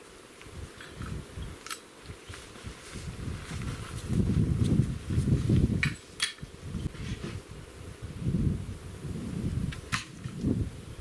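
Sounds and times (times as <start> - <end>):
wind buffeting microphone: 0.5 - 11.0.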